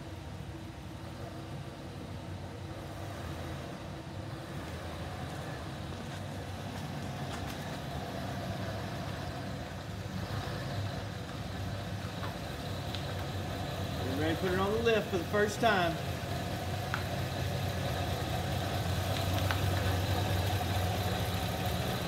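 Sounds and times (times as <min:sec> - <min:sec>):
car engine running at low speed: 0:00.0 - 0:22.0.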